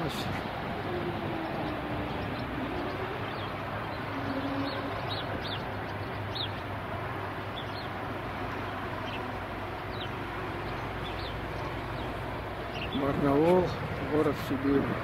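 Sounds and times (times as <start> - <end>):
road traffic hum: 0.0 - 15.0
small birds chirping: 0.0 - 15.0.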